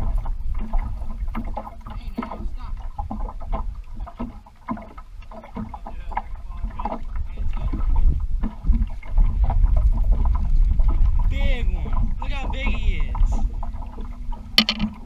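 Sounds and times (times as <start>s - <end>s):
water lapping against boat hull: 0.0s - 15.0s
wind buffeting microphone: 0.0s - 15.0s.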